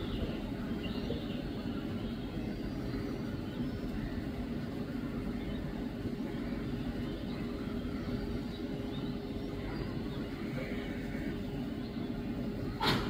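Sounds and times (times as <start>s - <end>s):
constant hum: 0.0s - 13.0s
distant traffic rumble: 0.0s - 13.0s.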